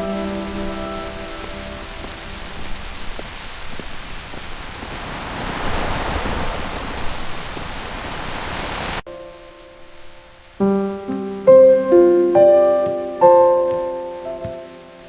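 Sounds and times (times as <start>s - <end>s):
loud raindrops: 0.0s - 15.0s
rain falling: 0.0s - 15.0s.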